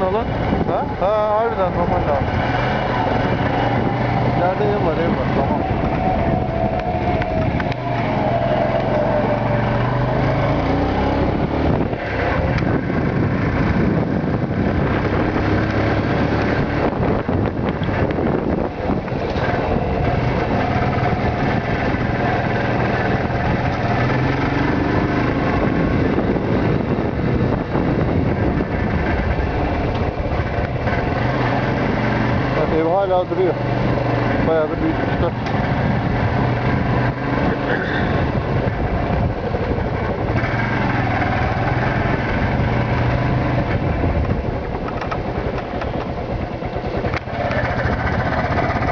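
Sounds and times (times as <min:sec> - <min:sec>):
motorcycle engine running: 0:00.0 - 0:48.9
wind rushing: 0:00.0 - 0:48.9.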